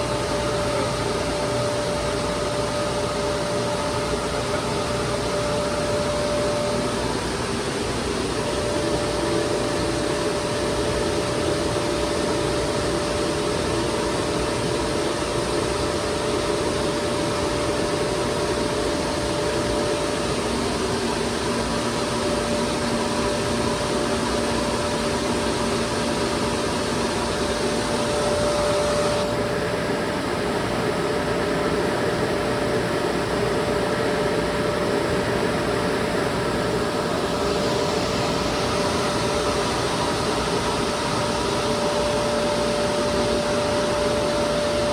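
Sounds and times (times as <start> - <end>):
air conditioner running: 0.0 - 44.9.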